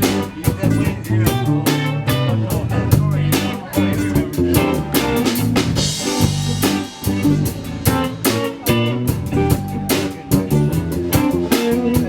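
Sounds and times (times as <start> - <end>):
drum kit beat: 0.0 - 12.0
guitar: 0.0 - 12.0.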